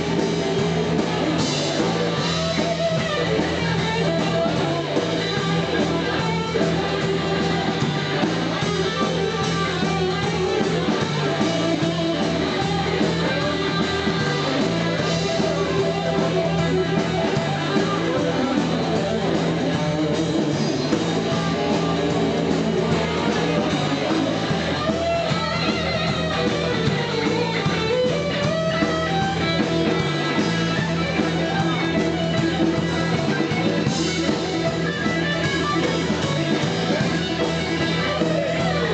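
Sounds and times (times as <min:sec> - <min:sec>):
bass line: 0:00.0 - 0:38.9
drums: 0:00.0 - 0:38.9
guitars: 0:00.0 - 0:38.9.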